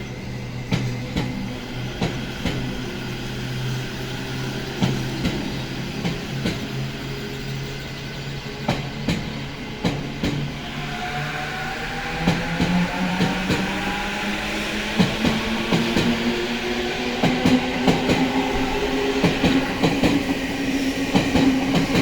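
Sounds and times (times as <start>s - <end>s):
electric train pulling out: 0.0s - 22.0s.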